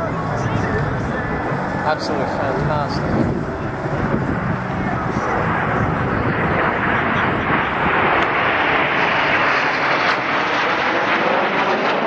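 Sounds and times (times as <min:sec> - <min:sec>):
jets flying over: 0:00.0 - 0:12.0.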